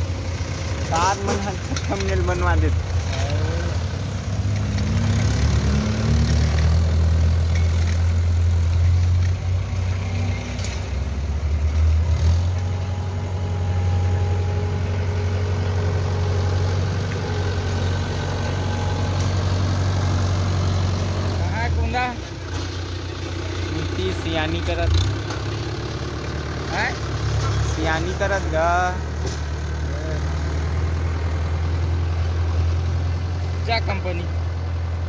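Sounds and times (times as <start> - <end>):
motorcycle engine pulling away: 0.0 - 33.6
tractor diesel engine under load: 0.0 - 35.0.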